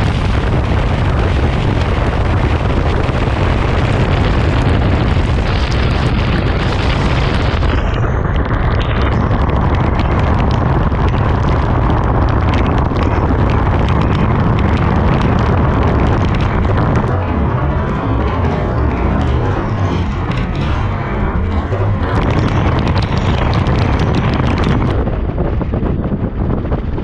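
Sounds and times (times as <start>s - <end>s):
rain ticking on helmet: 0.0s - 25.0s
wind buffeting microphone: 0.0s - 27.0s.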